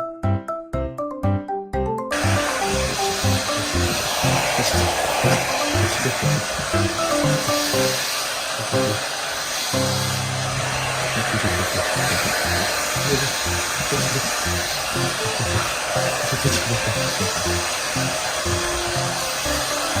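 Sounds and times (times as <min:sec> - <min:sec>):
background music: 0:00.0 - 0:09.1, 0:09.8 - 0:20.0
hair dryer blowing: 0:02.1 - 0:20.0.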